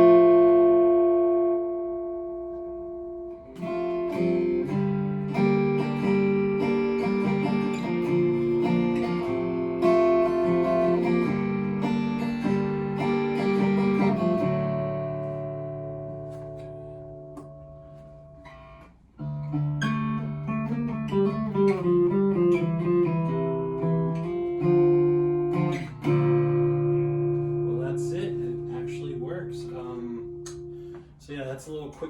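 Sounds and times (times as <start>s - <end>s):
acoustic guitar chords strummed: 0.0s - 32.0s.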